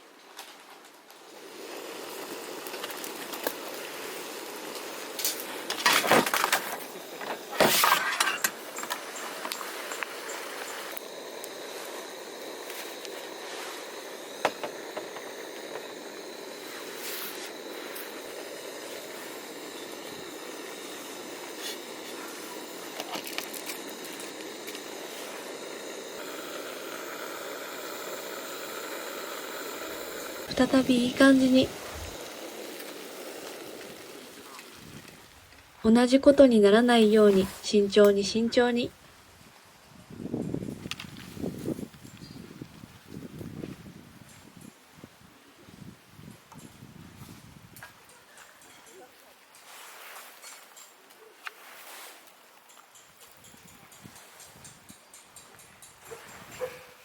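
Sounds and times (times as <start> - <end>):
steady low hiss: 0.0 - 57.0.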